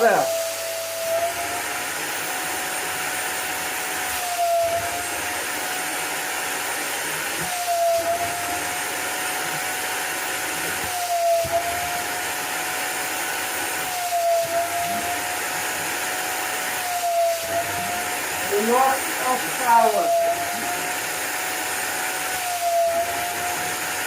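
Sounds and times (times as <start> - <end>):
wet vacuum whining: 0.0 - 24.0.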